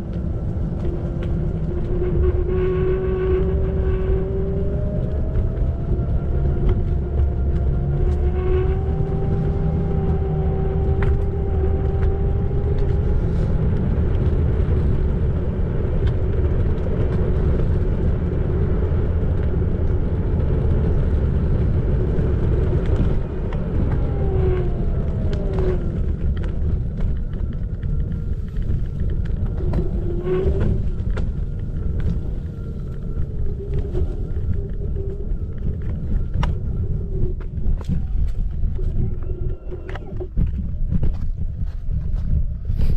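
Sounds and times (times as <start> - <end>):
electric motor whine: 0.0 - 41.8
rumble of wind and tyres: 0.0 - 42.9.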